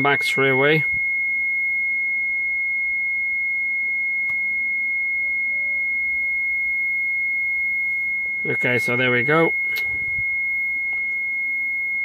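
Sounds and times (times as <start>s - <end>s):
high-pitched warning buzzer: 0.0s - 12.0s.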